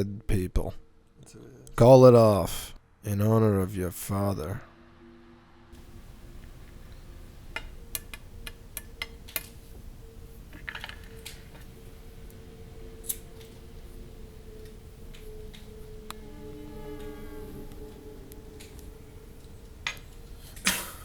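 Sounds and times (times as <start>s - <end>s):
steady low hum: 3.9s - 21.0s.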